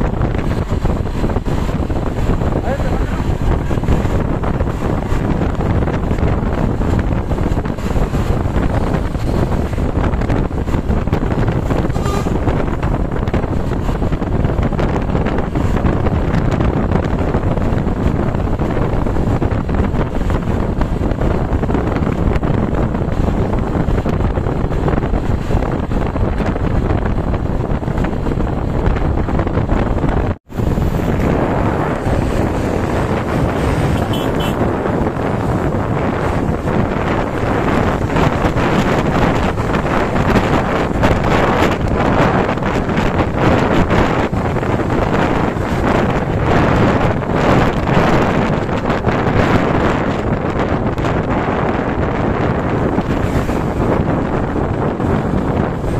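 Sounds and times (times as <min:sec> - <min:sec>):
road traffic rumble: 0:00.0 - 0:55.9
wind buffeting microphone: 0:00.0 - 0:55.9.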